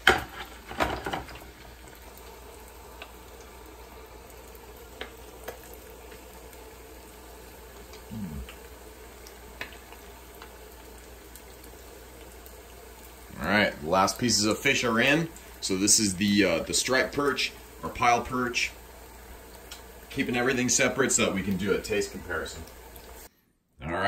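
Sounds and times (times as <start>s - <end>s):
fish sizzling in hot oil: 0.0s - 23.3s.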